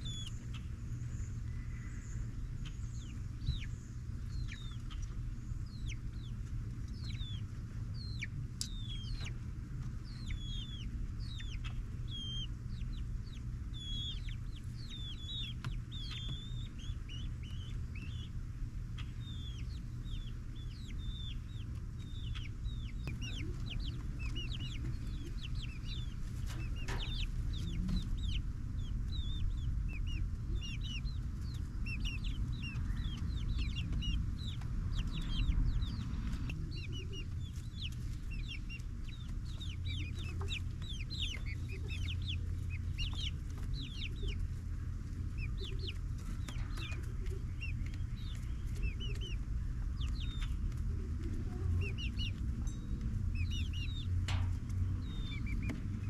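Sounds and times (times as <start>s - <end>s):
chicks peeping: 0.0s - 56.0s
steady low rumble: 0.0s - 56.0s.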